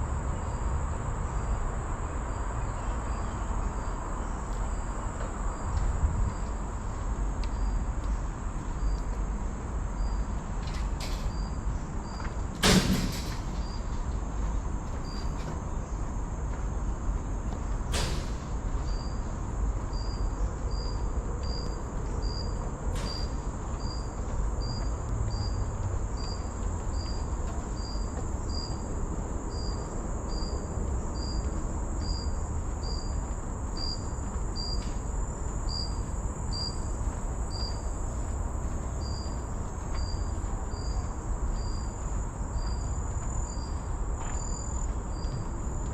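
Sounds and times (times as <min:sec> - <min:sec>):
insects buzzing and chirping: 0:00.0 - 0:45.9.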